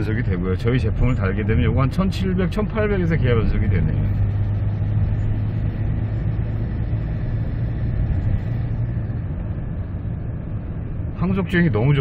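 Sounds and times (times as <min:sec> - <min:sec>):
car engine hum: 0:00.0 - 0:12.0
road noise rush: 0:00.0 - 0:12.0.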